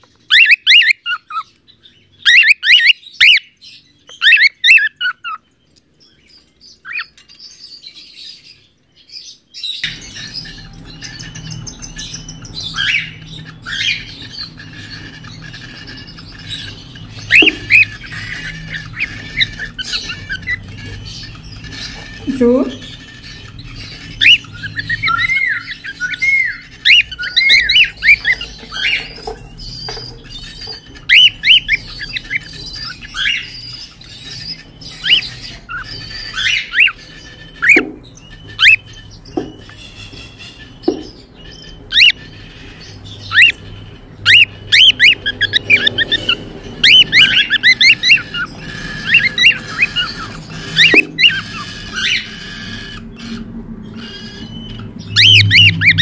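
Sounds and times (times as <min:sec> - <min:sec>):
cockatiels chirping and squawking: 0:00.0 - 0:56.0.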